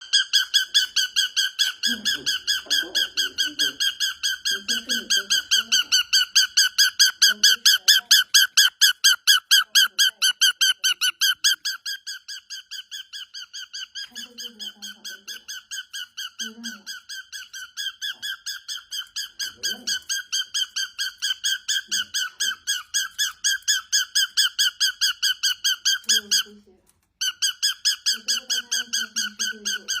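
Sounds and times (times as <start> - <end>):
cockatiel squeaky chirps: 0.0 - 30.0.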